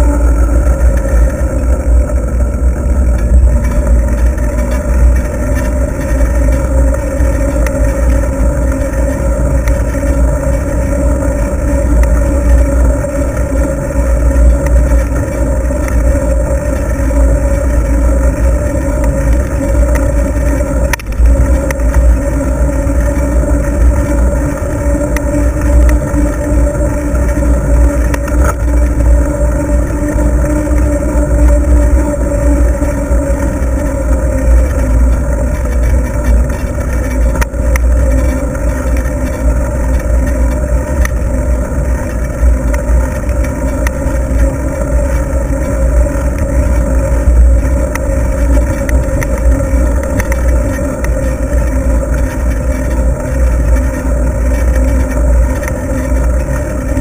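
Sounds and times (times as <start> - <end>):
bicycle tyres humming on pavement: 0.0 - 57.0
wind buffeting microphone: 0.0 - 57.0.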